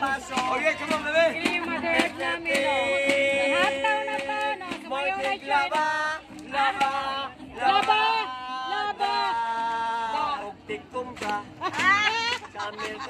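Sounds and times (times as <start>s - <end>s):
acoustic guitar strumming: 0.0s - 13.0s
man singing: 0.0s - 13.0s
woman singing along: 0.0s - 13.0s.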